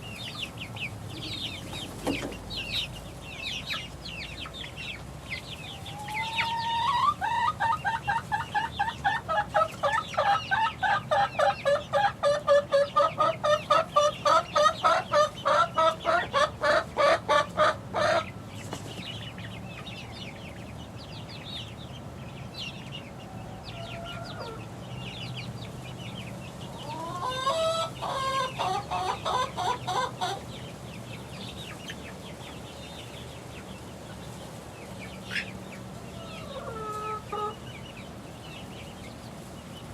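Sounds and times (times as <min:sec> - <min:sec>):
young chickens calling rapidly: 0:00.0 - 0:39.9.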